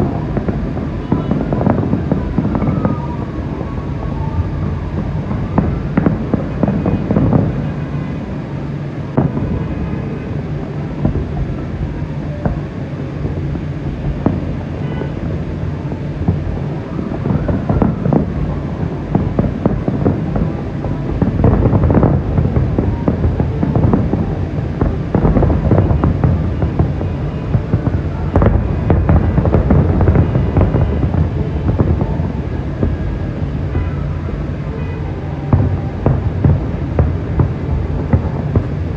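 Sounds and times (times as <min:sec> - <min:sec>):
fireworks bangs and crackles: 0:00.0 - 0:38.9
low rumble: 0:00.0 - 0:38.9.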